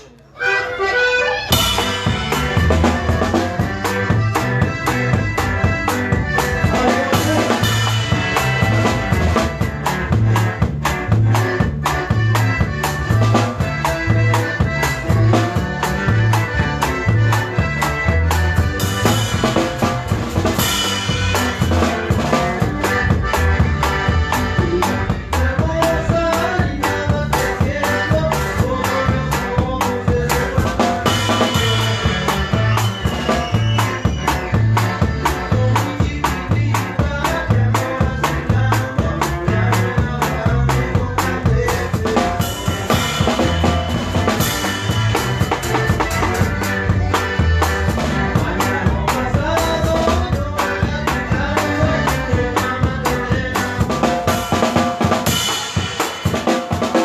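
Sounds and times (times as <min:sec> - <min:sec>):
drum kit beat: 0:00.0 - 0:57.0
live band playing: 0:00.0 - 0:57.0.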